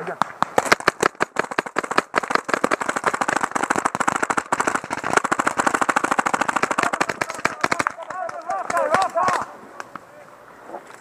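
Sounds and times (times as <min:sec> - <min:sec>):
paintball markers firing rapidly: 0:00.0 - 0:09.5.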